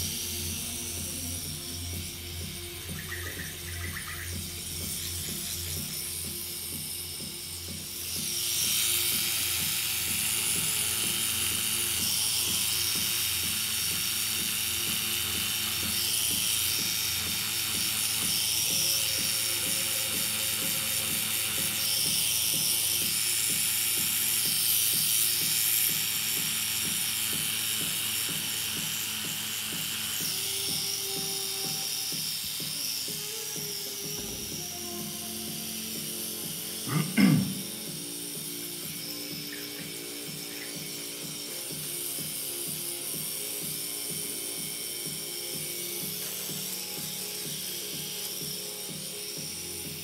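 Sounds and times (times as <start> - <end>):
background music: 0.0 - 26.2, 27.5 - 50.0
tattoo machine buzzing: 0.0 - 50.0.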